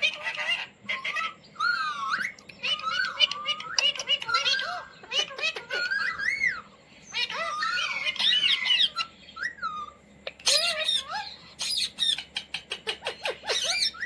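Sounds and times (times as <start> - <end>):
parrot squawking and chattering: 0.0 - 14.0.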